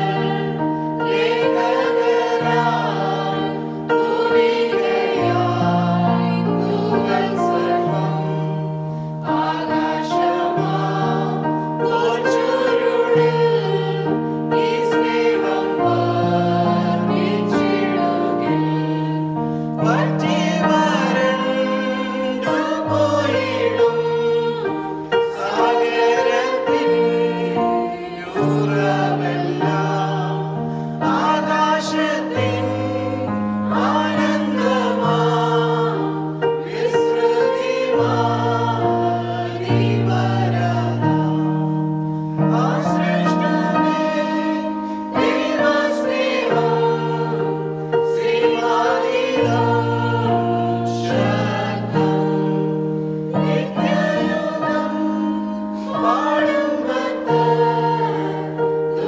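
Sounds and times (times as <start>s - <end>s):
group singing a hymn: 0.0s - 59.0s
keyboard accompaniment: 0.0s - 59.0s.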